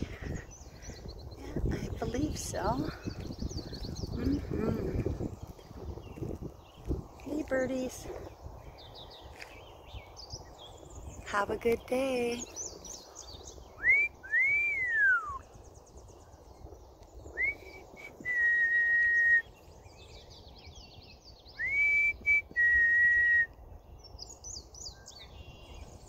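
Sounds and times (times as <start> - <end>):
songbird chirps: 0.0 - 26.0.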